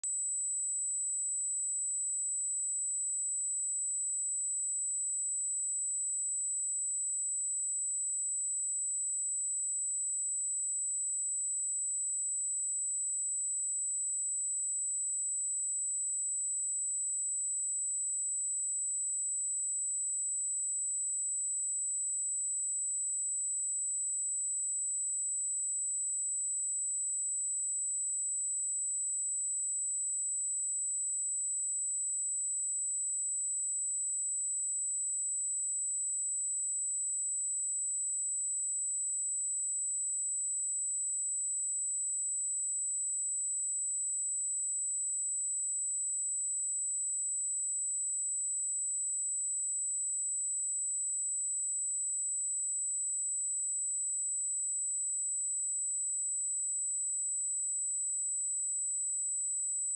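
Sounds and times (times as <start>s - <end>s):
high-pitched sine test tone: 0.0s - 59.9s.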